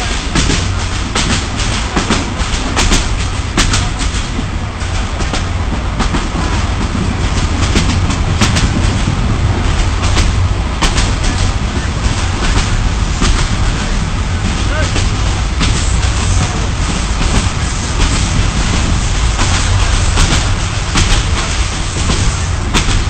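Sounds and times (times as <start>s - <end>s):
train low rumble: 0.0s - 23.0s
wheels clacking over rail joints: 0.0s - 23.0s.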